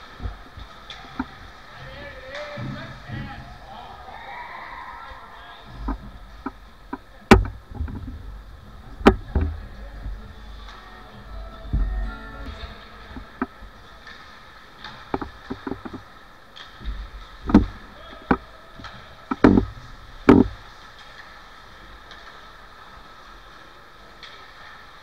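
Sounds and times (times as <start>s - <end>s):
puck and sticks hitting boards: 0.0s - 8.2s, 9.0s - 11.0s, 11.7s - 23.4s
arena hum: 0.0s - 20.6s.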